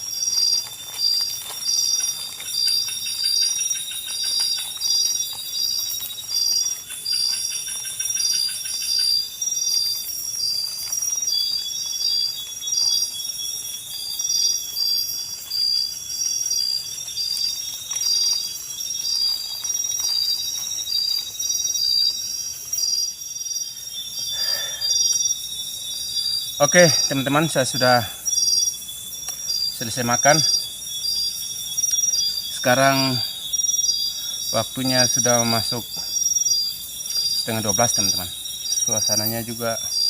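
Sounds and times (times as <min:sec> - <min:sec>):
continuous high insect buzz: 0:00.0 - 0:40.0
insect chirps: 0:00.0 - 0:40.0.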